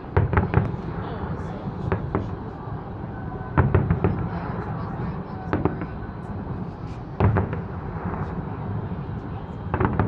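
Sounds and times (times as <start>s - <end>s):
steady low rumble: 0.0s - 10.0s
distant fireworks bangs: 0.1s - 2.5s, 3.5s - 10.0s.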